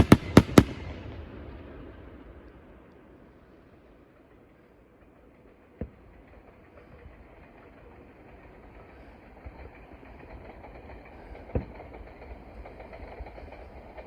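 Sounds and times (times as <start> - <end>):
low rumbling background noise: 0.0 - 12.7.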